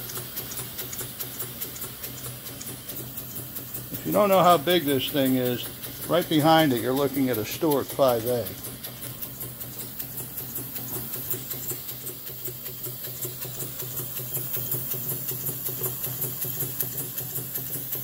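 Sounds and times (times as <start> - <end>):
steady low hum: 0.0 - 18.0
steam engine exhaust puffing: 0.0 - 18.0.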